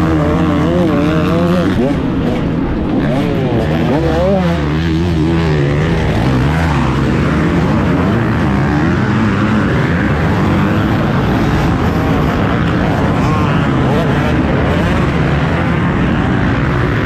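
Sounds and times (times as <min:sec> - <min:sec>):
motocross bike engines: 0:00.0 - 0:17.0.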